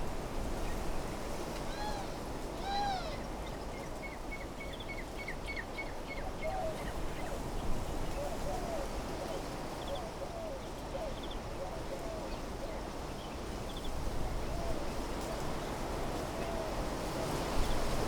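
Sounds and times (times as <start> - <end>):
wind through trees: 0.0 - 18.0.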